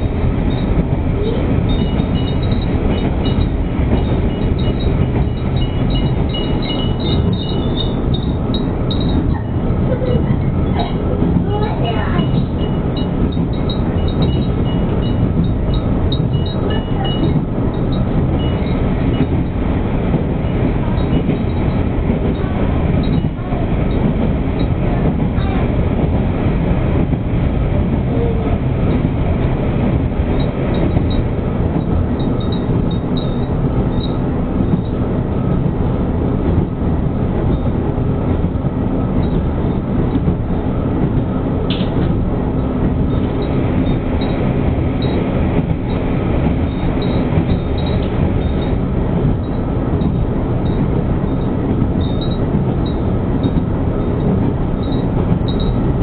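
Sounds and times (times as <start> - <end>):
railcar engine and wheels rumbling: 0.0 - 56.0.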